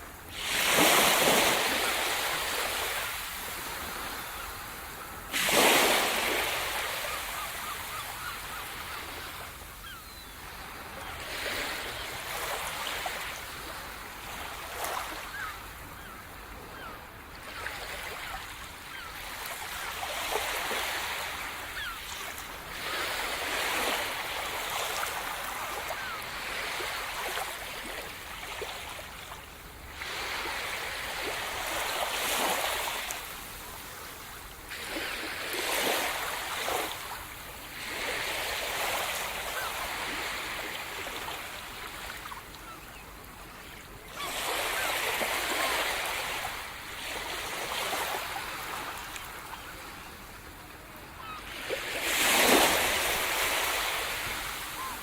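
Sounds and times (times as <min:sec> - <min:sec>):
waves breaking on shore: 0:00.0 - 0:16.2, 0:16.8 - 0:55.0.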